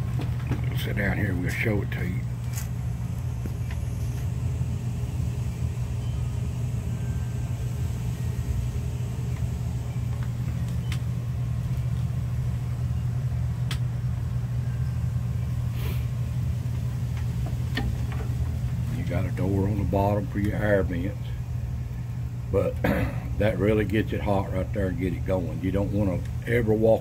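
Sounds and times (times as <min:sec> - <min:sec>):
furnace blower fan humming: 0:00.0 - 0:27.0.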